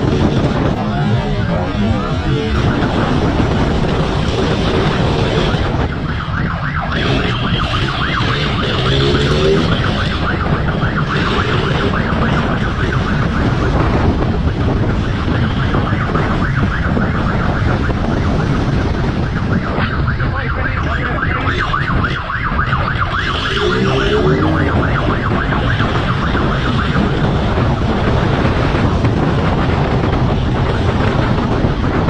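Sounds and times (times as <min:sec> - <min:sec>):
siren warbling: 0:00.0 - 0:27.5
loud wind: 0:00.0 - 0:32.0
vehicle noise: 0:00.0 - 0:32.0.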